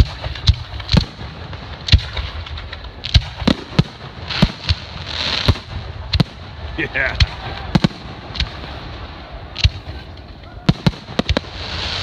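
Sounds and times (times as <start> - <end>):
fireworks bursting with booms: 0.0 - 12.0
fireworks hissing crackle: 0.0 - 12.0.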